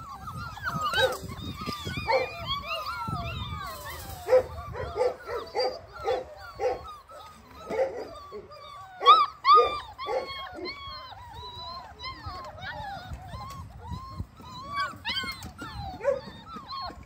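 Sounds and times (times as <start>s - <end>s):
puppies whining: 0.0s - 17.0s
puppies yelping: 0.0s - 17.0s.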